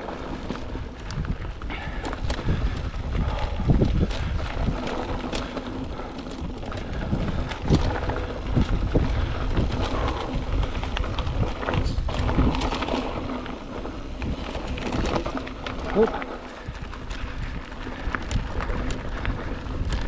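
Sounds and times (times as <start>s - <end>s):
bike rattling over bumps: 0.0s - 20.0s
bike tyre rumble on dirt: 0.0s - 20.0s
wind buffeting microphone: 0.0s - 20.0s.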